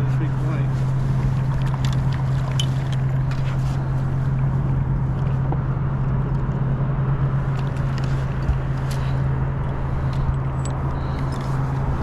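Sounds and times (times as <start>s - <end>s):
boat motor hum: 0.0s - 12.0s.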